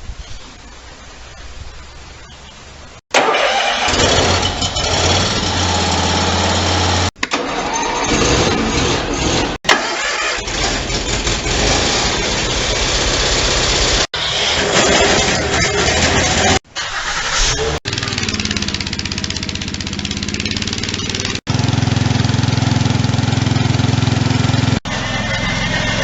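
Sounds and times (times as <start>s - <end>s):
lawn tractor engine running: 3.2s - 26.0s.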